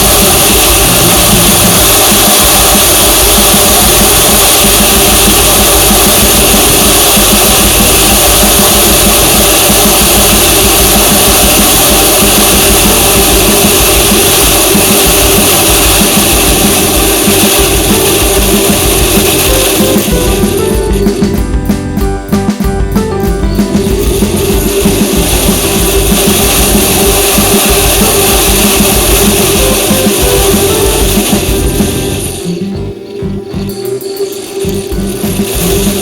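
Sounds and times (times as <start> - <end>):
loud rushing noise: 0.0 - 36.0
music playing: 0.0 - 36.0.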